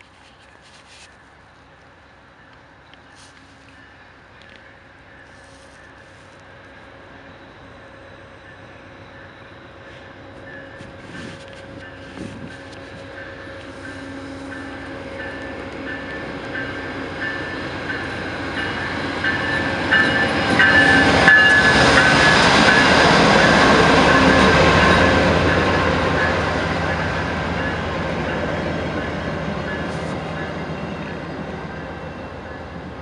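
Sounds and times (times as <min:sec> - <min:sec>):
diesel locomotive engine: 0:00.0 - 0:33.0
train coaches rumbling past: 0:00.0 - 0:33.0.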